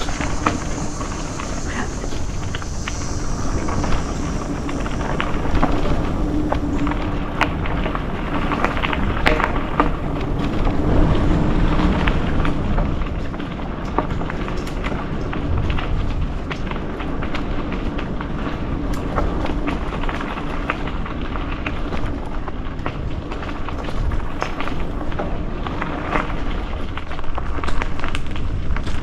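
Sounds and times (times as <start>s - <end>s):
bike tyres on dirt: 0.0s - 29.0s
wind rushing over microphone: 0.0s - 29.0s.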